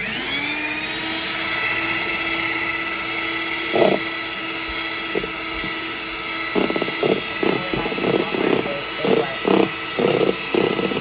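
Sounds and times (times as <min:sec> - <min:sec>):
electric hand mixer whining: 0:00.0 - 0:11.0
beaters whipping batter in bowl: 0:00.8 - 0:11.0.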